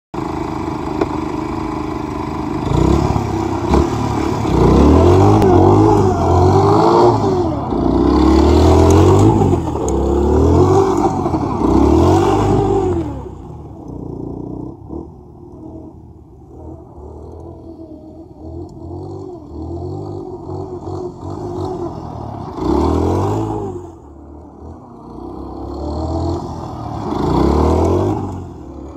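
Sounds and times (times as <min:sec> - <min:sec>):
motorcycle engine idling and revving: 0:00.2 - 0:28.9.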